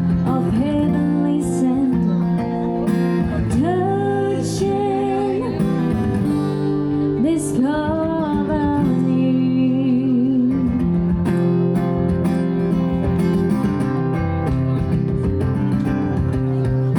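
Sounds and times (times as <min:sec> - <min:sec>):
strummed acoustic guitar: 0:00.0 - 0:16.9.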